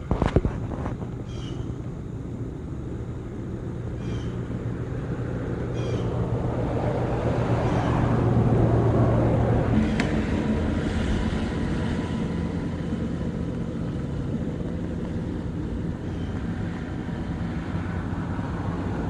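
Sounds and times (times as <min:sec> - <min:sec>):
vehicle approaching: 0:00.0 - 0:19.0.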